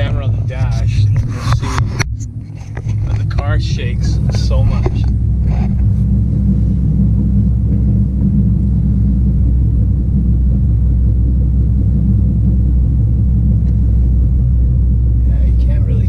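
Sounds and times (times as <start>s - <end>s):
engine idling with deep rumble: 0.0s - 16.0s.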